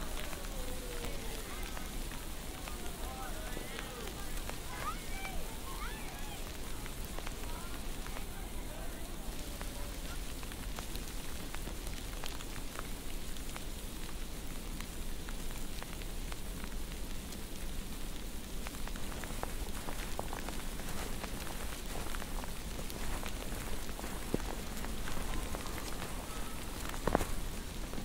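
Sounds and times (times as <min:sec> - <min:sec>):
rain-like hiss: 0:00.0 - 0:28.0
scattered crackles: 0:00.0 - 0:28.0.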